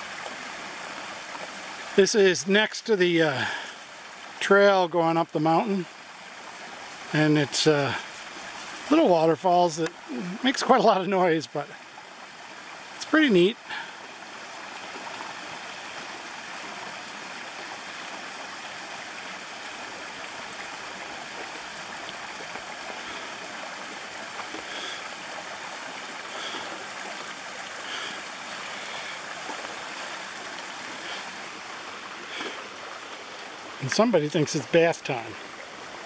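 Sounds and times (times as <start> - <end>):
waterfall rushing over rocks: 0.0 - 36.0.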